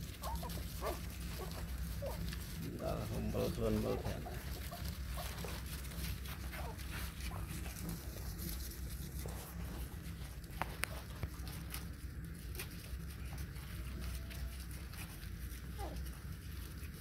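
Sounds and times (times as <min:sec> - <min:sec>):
puppies suckling: 0:00.0 - 0:17.0.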